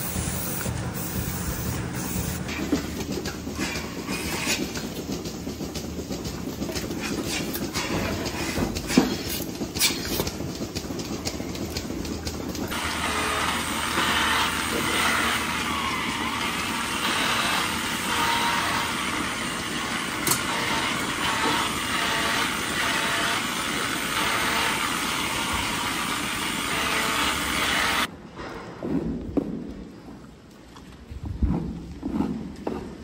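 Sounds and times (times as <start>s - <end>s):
milking machinery rumble and hiss: 0.0s - 28.1s.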